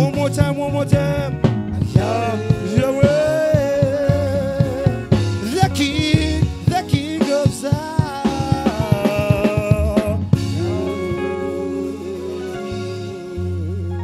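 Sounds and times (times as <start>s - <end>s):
drums: 0.0s - 14.0s
gospel band music: 0.0s - 14.0s
held chord over bass note: 0.0s - 14.0s.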